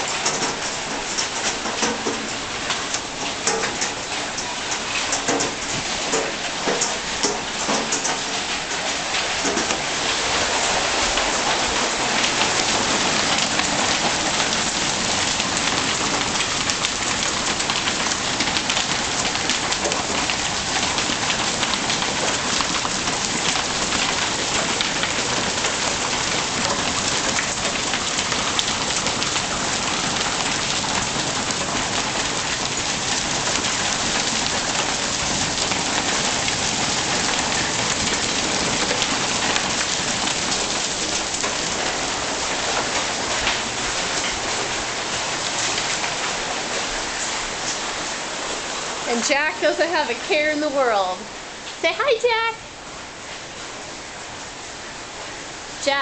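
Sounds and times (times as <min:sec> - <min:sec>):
hailstones ticking: 0:00.0 - 0:50.7
heavy rain pounding: 0:00.0 - 0:56.0.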